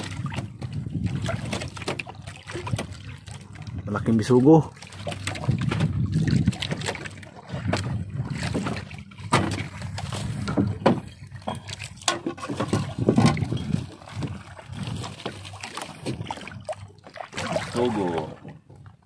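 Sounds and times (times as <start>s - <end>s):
knocks and clatter in wooden boat: 0.0s - 19.0s
water rumbling against boat: 0.0s - 19.0s.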